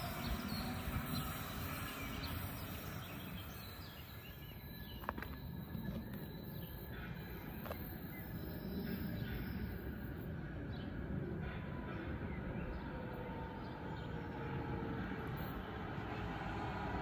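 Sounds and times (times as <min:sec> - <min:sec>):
faint bird chirps: 0:00.0 - 0:13.8
electric train rumble: 0:00.0 - 0:17.0
faint motor whine: 0:00.0 - 0:17.0.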